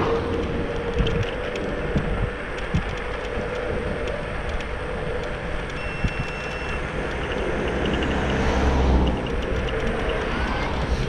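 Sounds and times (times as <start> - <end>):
faint regular clicks: 0.0 - 11.0
tyres and wind rushing: 0.0 - 11.0.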